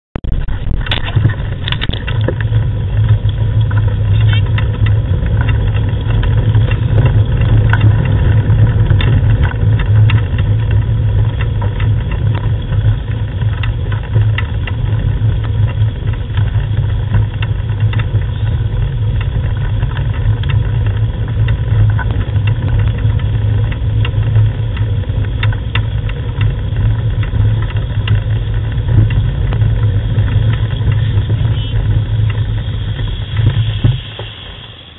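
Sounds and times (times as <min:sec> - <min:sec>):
rig rolling over gravel: 0:00.2 - 0:34.9.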